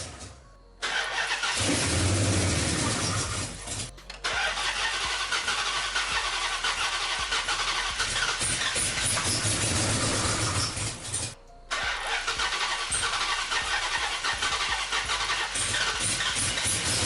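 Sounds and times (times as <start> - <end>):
car engine starting and running: 0.0 - 17.0.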